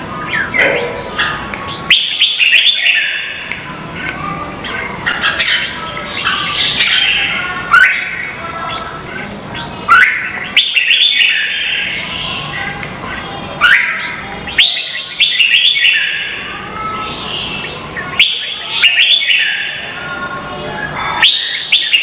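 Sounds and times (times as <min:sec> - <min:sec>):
birds singing whistled phrases: 0:00.0 - 0:22.0.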